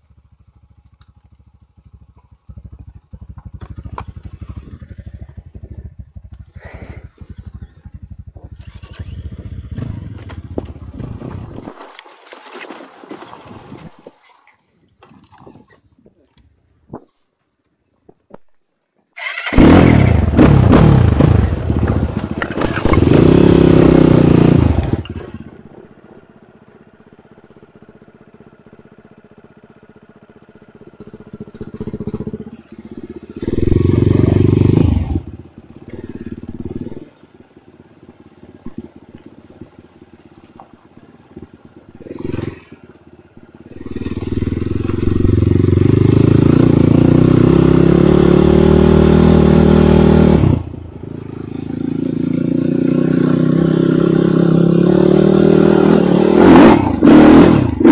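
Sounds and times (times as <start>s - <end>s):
dirt bike engine revving: 1.6s - 11.6s, 19.2s - 25.7s, 26.8s - 40.4s, 41.0s - 57.9s.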